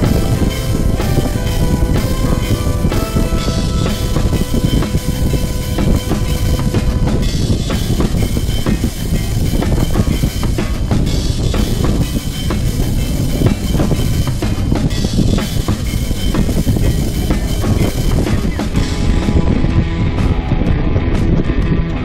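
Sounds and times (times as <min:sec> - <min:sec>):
music with steady drum beat: 0:00.0 - 0:22.0.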